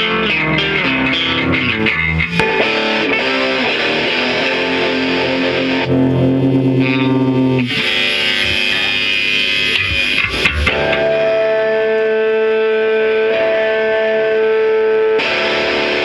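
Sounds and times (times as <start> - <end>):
bass guitar: 0.0 - 14.4
distorted electric guitar: 0.0 - 16.0.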